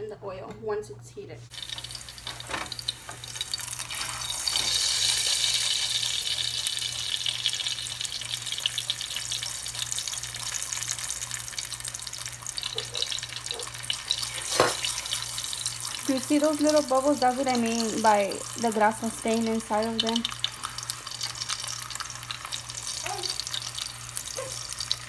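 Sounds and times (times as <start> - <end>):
tortilla sizzling in hot oil: 1.5 - 25.0.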